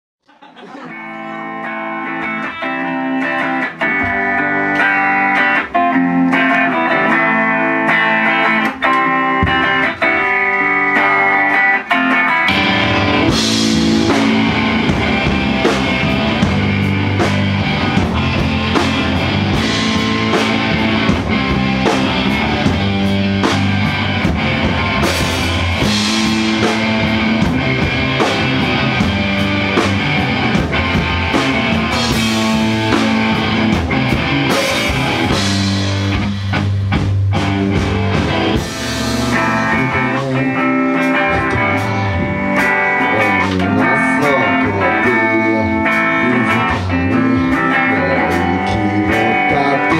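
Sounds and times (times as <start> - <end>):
drums: 0.3 - 49.9
electric guitar picking: 0.5 - 49.9
live rock band playing: 0.5 - 49.9
bass guitar: 0.8 - 49.9.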